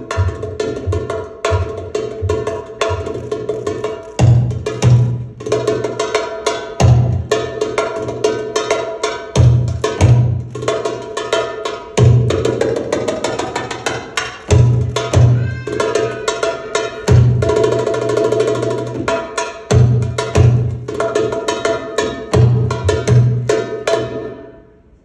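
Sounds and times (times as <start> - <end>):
hand drum solo: 0.0 - 24.4.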